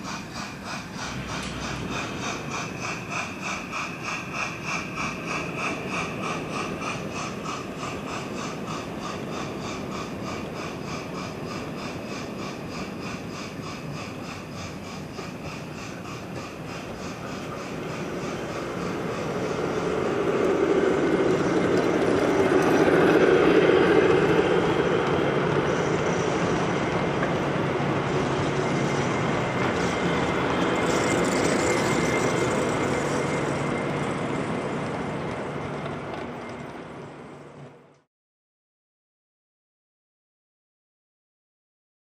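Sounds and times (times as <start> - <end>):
model train rumbling on track: 0.0 - 38.0.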